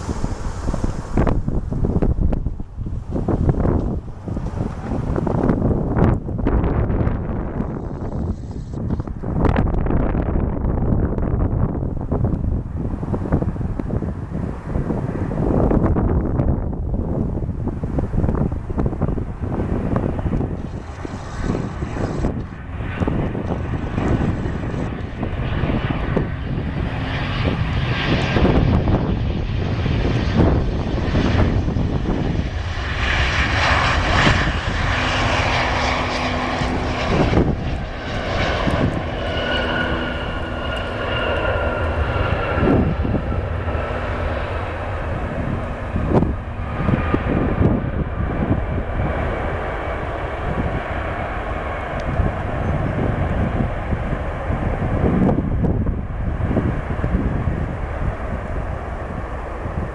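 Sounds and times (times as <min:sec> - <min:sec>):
jet engine roar: 0:00.0 - 0:59.9
whining jet engine tones: 0:00.0 - 0:59.9.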